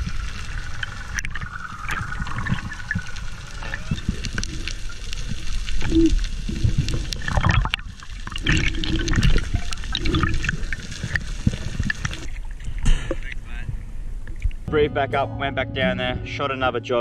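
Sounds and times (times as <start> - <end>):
underwater rushing and gurgling: 0.0 - 14.7.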